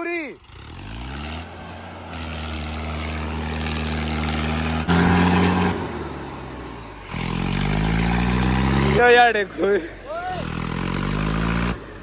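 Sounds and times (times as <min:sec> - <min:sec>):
tractor diesel engine revving: 0:00.2 - 0:12.0.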